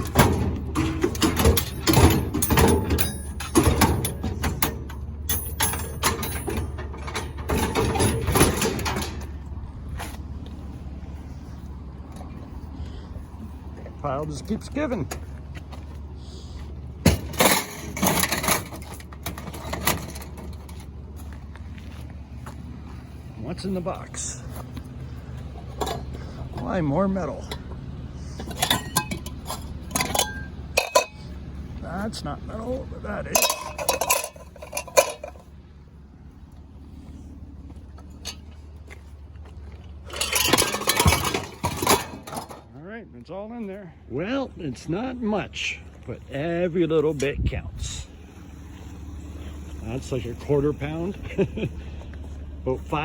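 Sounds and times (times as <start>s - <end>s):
scrap metal clanking and rattling: 0.0s - 42.8s
vehicle engine idling: 0.0s - 53.0s.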